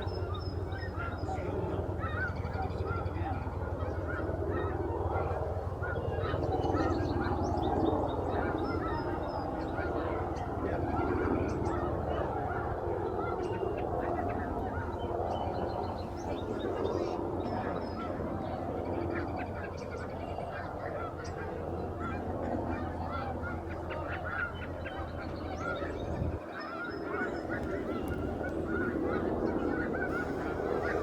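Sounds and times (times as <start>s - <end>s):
flock of geese honking: 0.0s - 31.0s.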